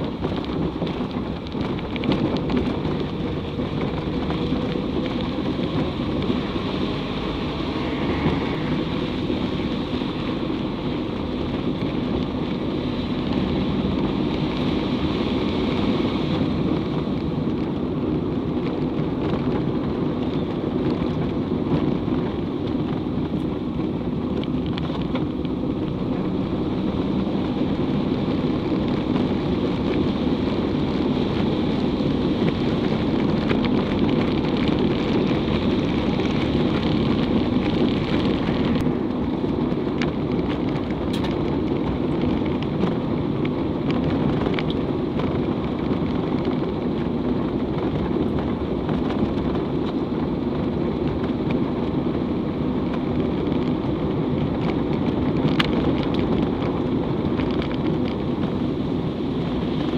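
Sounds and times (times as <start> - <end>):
vehicle road and engine noise: 0.0 - 59.9.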